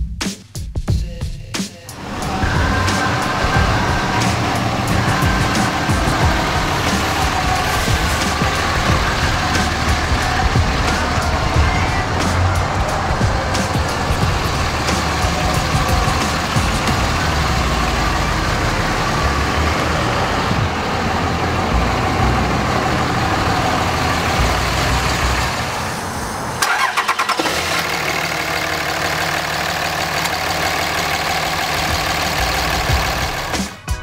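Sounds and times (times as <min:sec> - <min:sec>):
diesel engine idling: 0:01.9 - 0:33.8.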